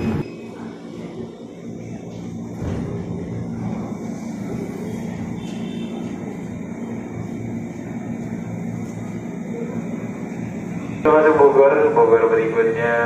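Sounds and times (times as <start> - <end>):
electric train droning: 0.0 - 13.0.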